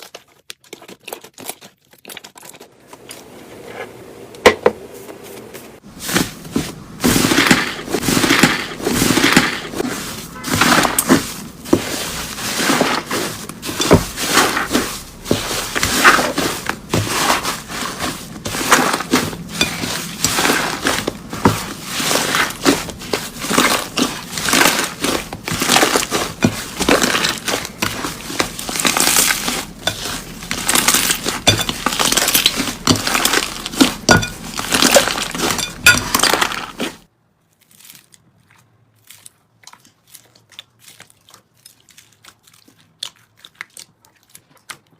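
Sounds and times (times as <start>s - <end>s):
slime crackling and crunching: 0.0s - 2.8s, 5.8s - 44.9s.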